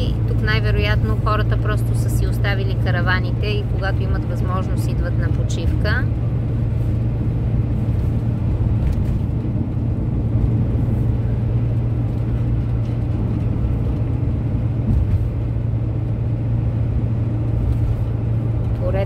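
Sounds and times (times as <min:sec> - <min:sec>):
vehicle engine drone: 0:00.0 - 0:19.0.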